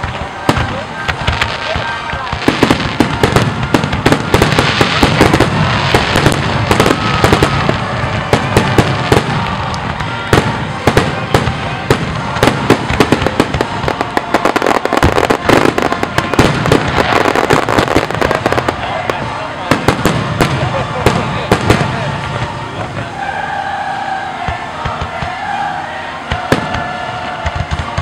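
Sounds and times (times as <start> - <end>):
fireworks bangs and crackles: 0.0 - 23.6, 24.4 - 28.0.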